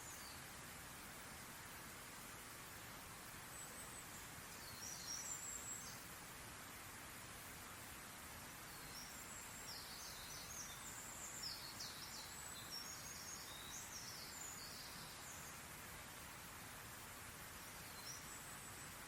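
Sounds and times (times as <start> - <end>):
faint outdoor hiss: 0.0 - 19.0
small birds chirping: 0.0 - 19.0.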